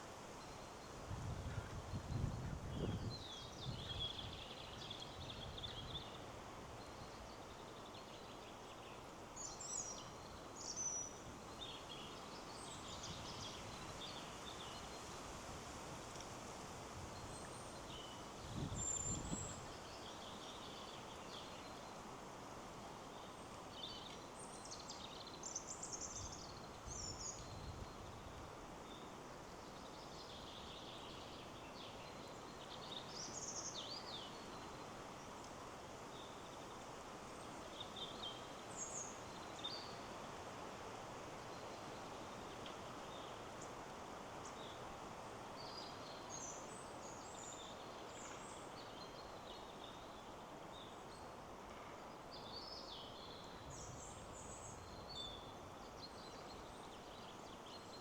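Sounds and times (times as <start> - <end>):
wind in the trees: 0.0 - 58.0.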